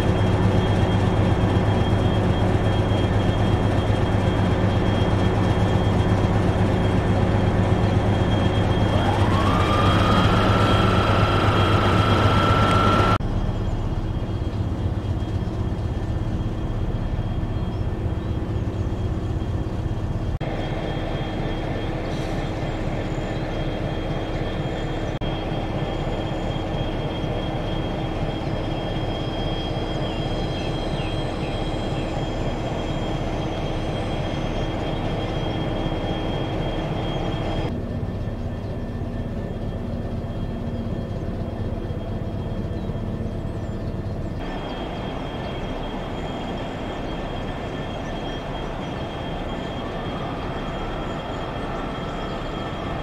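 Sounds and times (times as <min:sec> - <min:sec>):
diesel locomotive engines rumbling: 0:00.0 - 0:53.0
steady high whine: 0:00.0 - 0:53.0.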